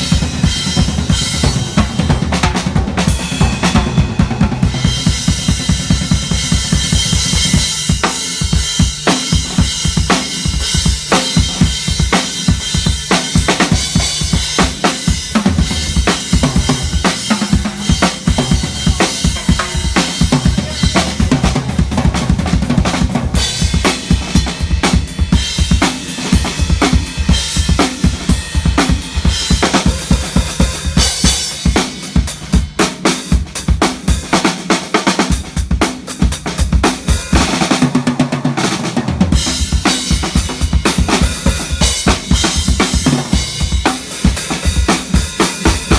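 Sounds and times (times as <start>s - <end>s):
drum kit fast beat: 0.0s - 45.9s.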